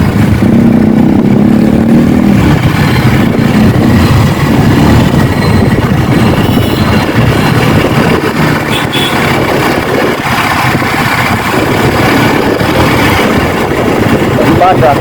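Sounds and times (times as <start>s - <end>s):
heavy road traffic: 0.0s - 15.0s
motorcycle engine running: 0.0s - 15.0s.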